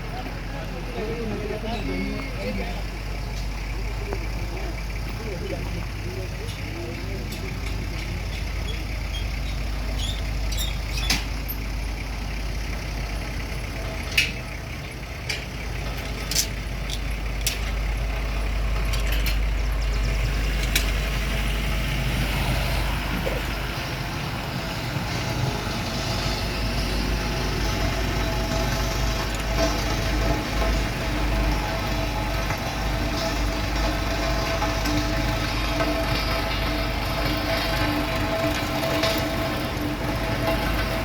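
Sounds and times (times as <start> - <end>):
diesel engine low rumble: 0.0 - 41.0.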